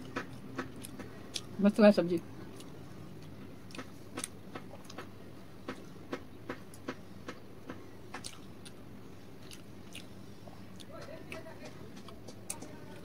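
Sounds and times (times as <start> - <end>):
chewing food: 0.0 - 13.0
low steady hum: 0.0 - 13.0.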